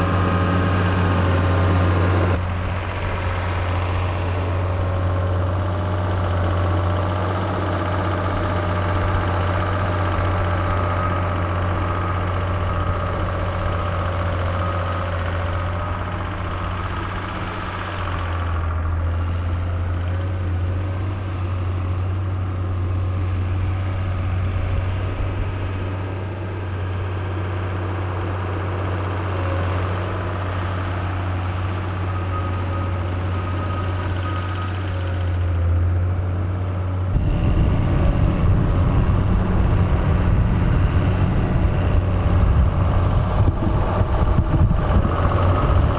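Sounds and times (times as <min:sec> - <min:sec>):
diesel locomotive engine idling: 0:00.0 - 0:45.9.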